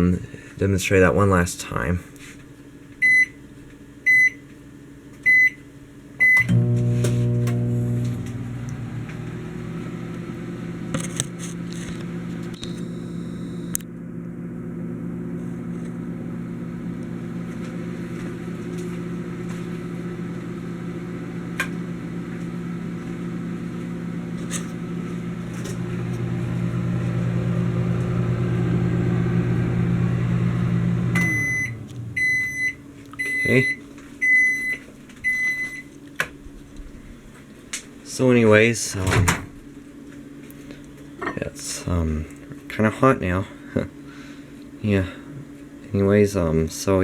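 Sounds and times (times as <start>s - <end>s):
microwave oven humming: 1.7s - 47.0s.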